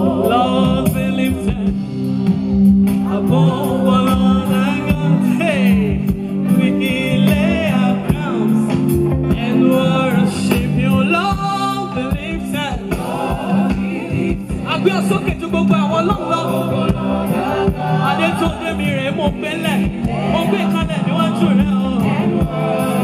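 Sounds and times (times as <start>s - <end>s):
backing voices singing: 0.0s - 1.8s, 3.0s - 23.0s
lead vocalist singing: 0.0s - 2.3s, 2.9s - 23.0s
gospel band with drum beat: 0.0s - 23.0s.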